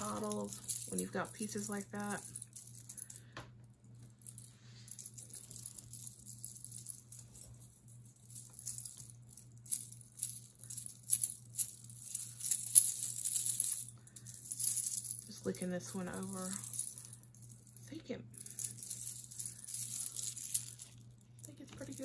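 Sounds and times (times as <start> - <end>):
jewelry rattling and jingling: 0.0 - 22.0.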